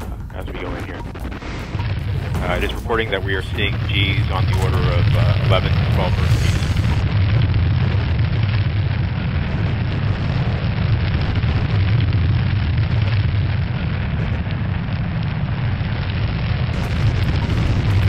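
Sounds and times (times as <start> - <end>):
deep rumble of capsule entry: 0.0 - 18.0.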